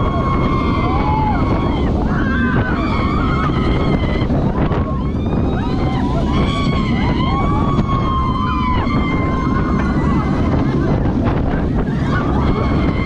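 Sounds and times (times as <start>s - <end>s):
riders screaming: 0.0s - 11.0s, 11.6s - 13.0s
roller coaster train rumbling: 0.0s - 13.0s
wind buffeting microphone: 0.0s - 13.0s.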